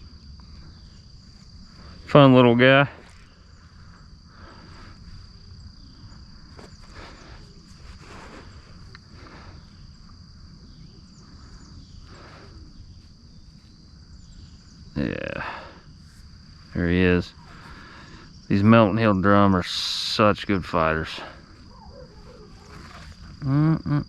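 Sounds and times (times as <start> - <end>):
insect drone: 0.0 - 24.0.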